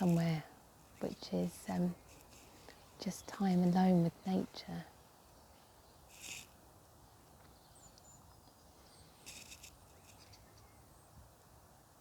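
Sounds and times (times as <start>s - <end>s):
soft rustle: 0.0s - 6.6s, 7.2s - 10.8s.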